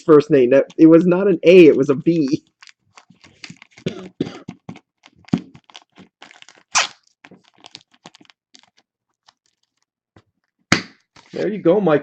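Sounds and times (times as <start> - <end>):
trading cards being handled: 0.5 - 11.5.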